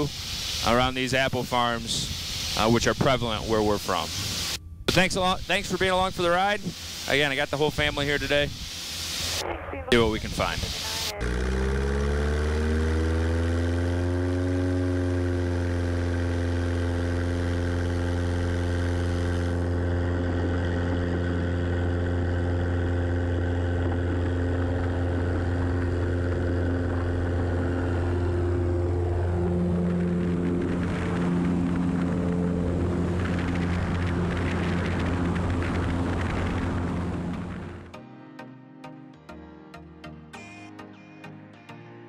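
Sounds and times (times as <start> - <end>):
airplane propeller engine droning: 0.0 - 38.0.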